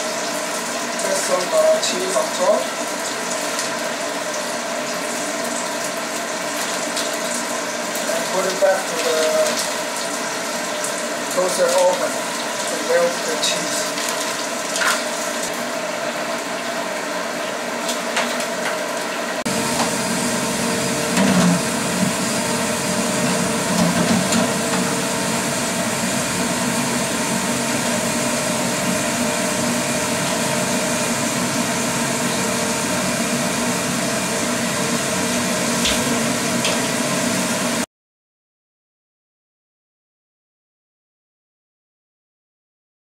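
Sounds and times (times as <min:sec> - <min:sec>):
steady mechanical hum: 0:00.0 - 0:37.9.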